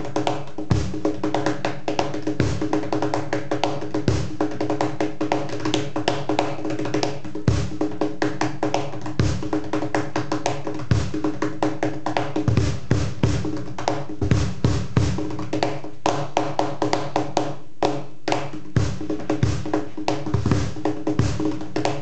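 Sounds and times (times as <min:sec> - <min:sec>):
cajon bass strokes: 0:00.0 - 0:22.0
hand slaps and taps on cajon: 0:00.0 - 0:22.0.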